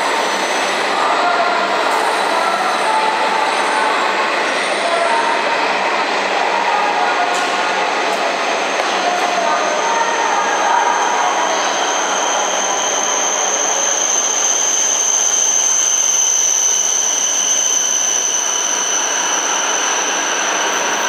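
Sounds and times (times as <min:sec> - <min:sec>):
high steady train whine: 0:00.0 - 0:21.0
high-speed train rushing rumble: 0:00.0 - 0:21.0.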